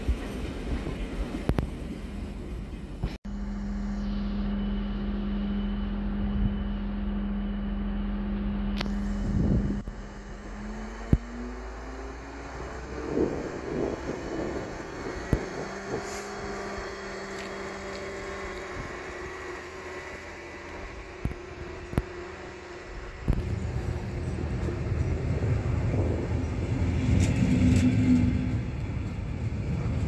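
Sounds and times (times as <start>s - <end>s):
train mechanical hum: 0.0s - 30.0s.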